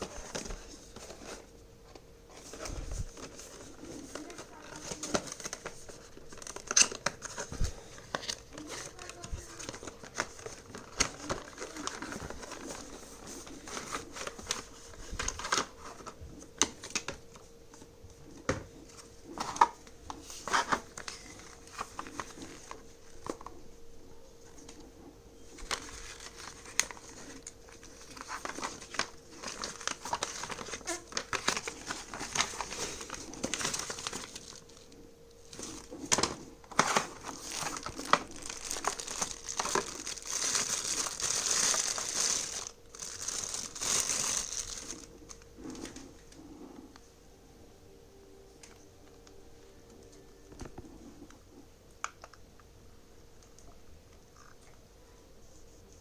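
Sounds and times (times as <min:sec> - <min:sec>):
plastic and cardboard crinkling: 0:00.0 - 0:46.7.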